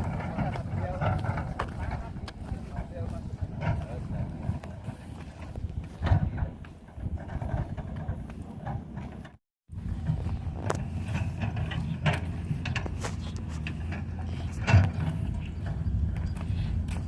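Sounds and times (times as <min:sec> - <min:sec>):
engine running: 0:00.0 - 0:17.0
machinery clanks and knocks: 0:00.0 - 0:17.0.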